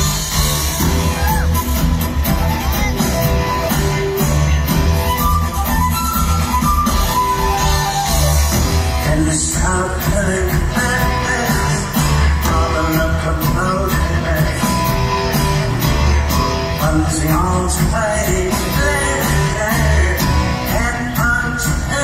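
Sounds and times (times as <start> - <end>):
drums beating: 0.0 - 22.0
electric guitar: 0.0 - 22.0
heavy bass line: 0.0 - 22.0
keyboards: 0.0 - 22.0.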